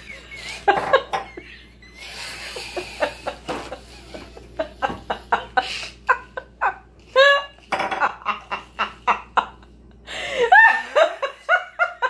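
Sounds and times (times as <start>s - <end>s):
women laughing hard: 0.0s - 12.0s.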